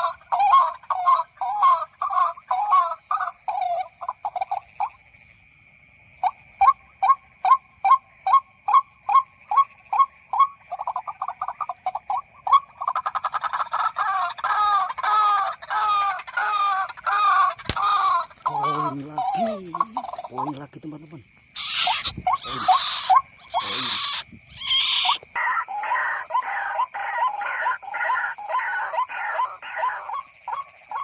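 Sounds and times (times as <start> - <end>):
bird calls: 0.0 - 5.0, 6.2 - 31.0
croaking bird calls: 0.0 - 5.4, 6.1 - 31.0.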